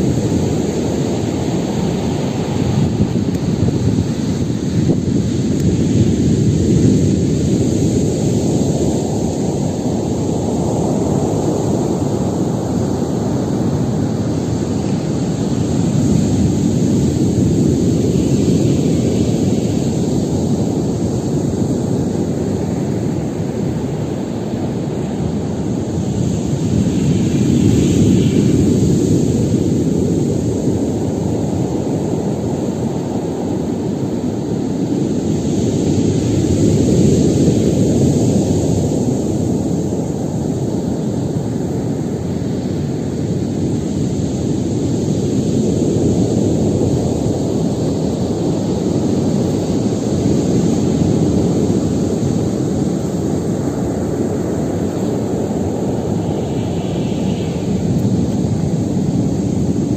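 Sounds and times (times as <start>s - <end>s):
waves breaking in deep roar: 0.0s - 59.9s.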